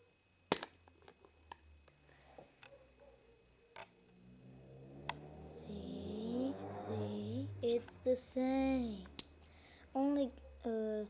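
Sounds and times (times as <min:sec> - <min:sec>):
low hum: 0:00.4 - 0:11.0.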